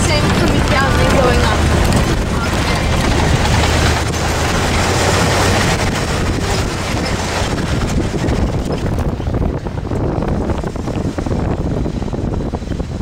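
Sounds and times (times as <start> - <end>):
tyres crunching on gravel: 0.0 - 11.2
engine droning low: 0.0 - 13.0
wind buffeting microphone: 0.0 - 13.0.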